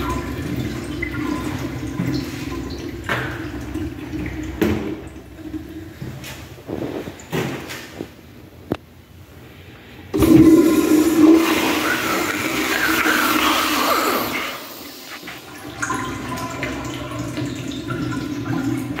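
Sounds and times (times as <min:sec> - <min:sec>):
toilet flushing: 0:00.0 - 0:08.1, 0:10.0 - 0:19.0.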